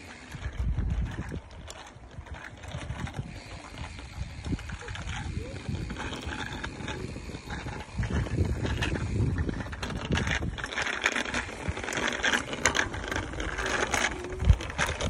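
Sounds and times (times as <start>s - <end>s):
tyre noise on paved road: 0.0s - 15.0s
wind buffeting microphone: 0.0s - 15.0s.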